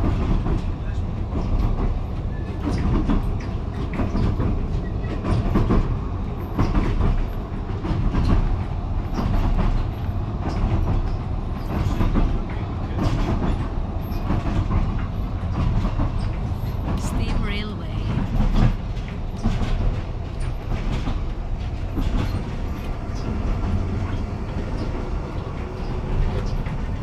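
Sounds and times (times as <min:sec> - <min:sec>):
wheels clattering over rails: 0:00.0 - 0:17.0, 0:18.3 - 0:27.0
train rumble inside carriage: 0:00.0 - 0:27.0.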